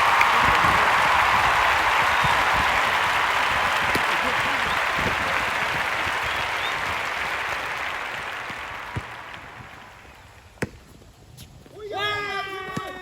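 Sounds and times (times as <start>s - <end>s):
crowd applause: 0.0s - 10.5s.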